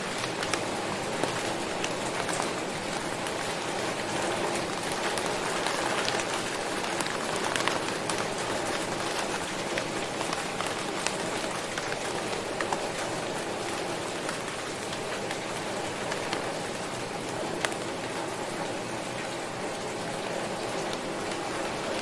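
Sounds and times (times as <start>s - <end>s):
raindrop impacts: 0.0s - 18.5s
steady rain hiss: 0.0s - 22.0s.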